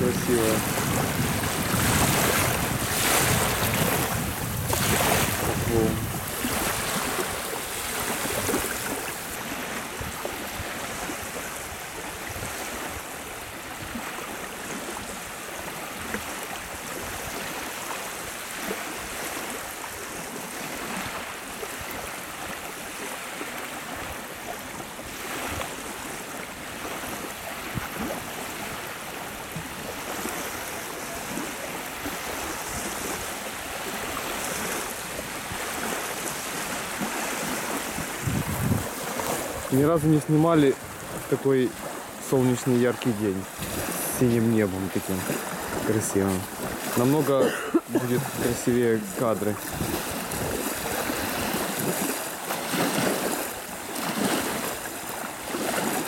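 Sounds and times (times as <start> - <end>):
waves lapping on shore: 0.0 - 56.0.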